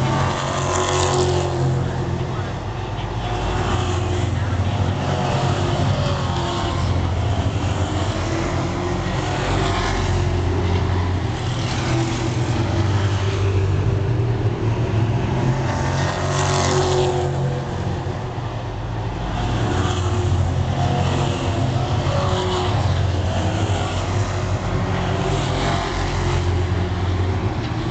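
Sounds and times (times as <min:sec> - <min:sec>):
racing car engines: 0:00.0 - 0:27.9.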